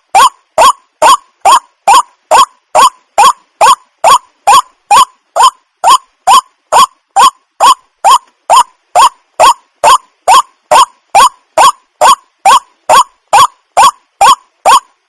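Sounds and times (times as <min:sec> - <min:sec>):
waterhen calling: 0:00.2 - 0:14.8.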